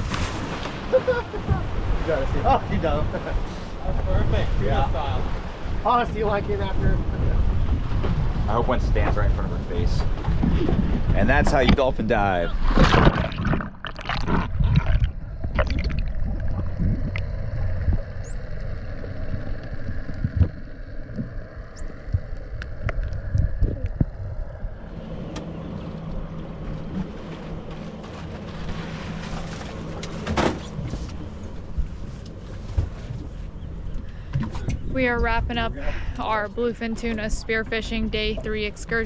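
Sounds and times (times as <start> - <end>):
outboard motor hum: 0.0 - 39.0
underwater rushing and bubbling: 0.0 - 39.0.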